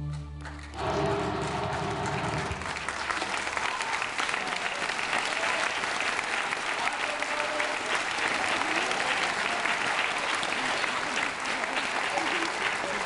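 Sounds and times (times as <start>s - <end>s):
audience applause: 0.4s - 13.0s.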